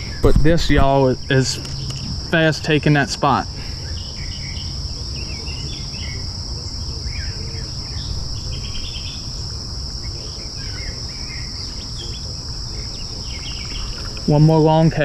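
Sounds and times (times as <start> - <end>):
constant low rumble: 0.0 - 15.0
insect chorus: 0.0 - 15.0.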